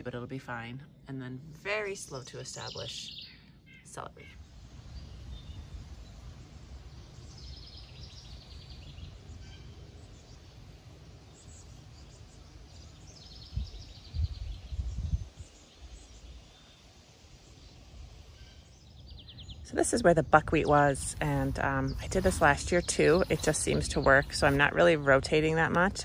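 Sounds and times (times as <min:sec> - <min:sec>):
wind rumble on microphone: 0:04.2 - 0:26.0.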